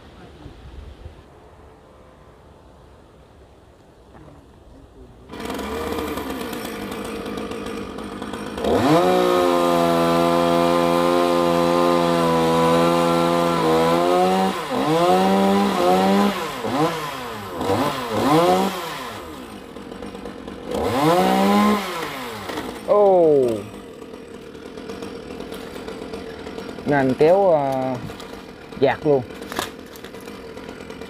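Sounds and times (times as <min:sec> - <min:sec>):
chainsaw starting and revving: 0:05.3 - 0:31.0.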